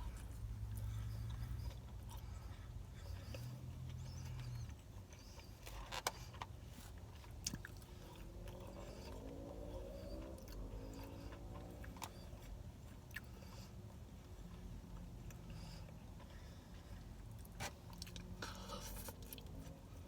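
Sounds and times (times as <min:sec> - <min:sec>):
chewing crispy fried chicken: 0:00.0 - 0:20.0.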